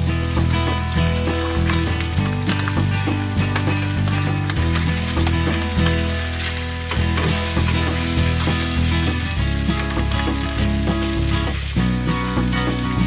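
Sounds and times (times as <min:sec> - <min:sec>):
scallops sizzling in a frying pan: 0:00.0 - 0:13.0.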